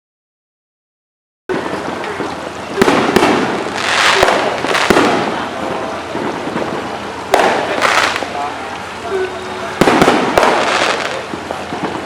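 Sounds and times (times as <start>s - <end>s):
fireworks crackling and hissing: 1.5s - 12.0s
fireworks sharp bangs: 1.5s - 12.0s.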